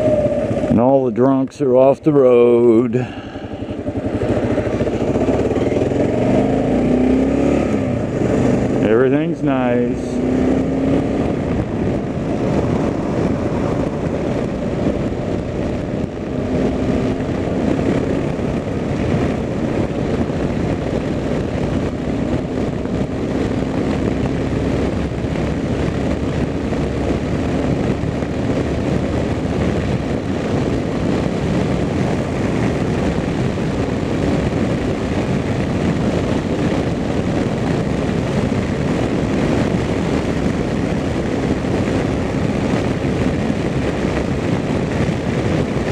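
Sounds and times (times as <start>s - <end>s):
motorcycle engine cruising: 0.0s - 45.9s
wind noise: 0.0s - 45.9s.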